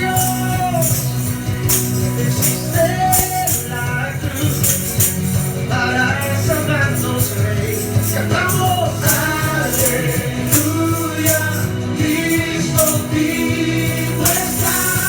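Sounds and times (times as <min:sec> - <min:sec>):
tambourine or shaker beat: 0:00.0 - 0:15.0
worship song with singing and band: 0:00.0 - 0:15.0.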